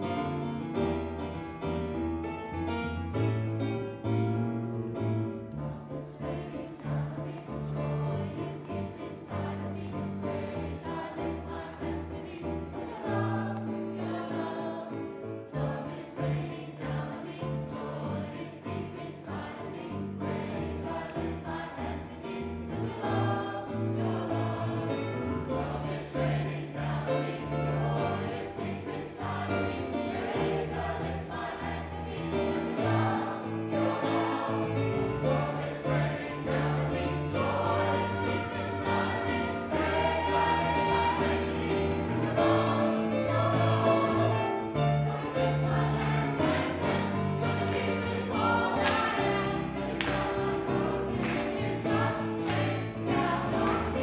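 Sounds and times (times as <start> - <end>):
gospel choir singing: 0.0 - 54.0.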